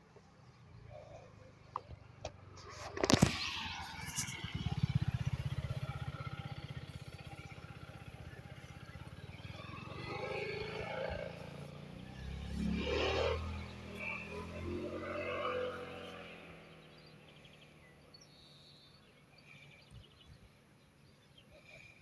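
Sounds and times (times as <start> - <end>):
small engine pulsing: 2.5 - 20.8.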